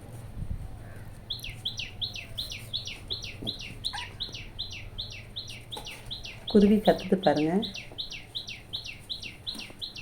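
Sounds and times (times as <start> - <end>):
small bird chirping: 0.8 - 10.0.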